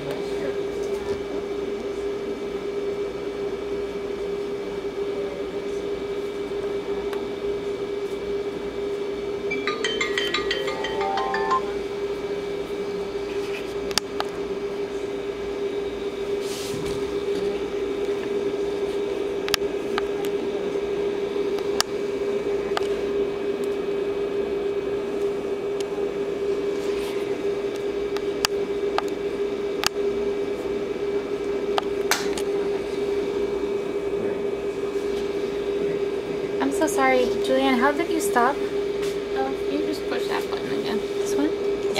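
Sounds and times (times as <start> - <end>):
steady mechanical hum: 0.0 - 41.9.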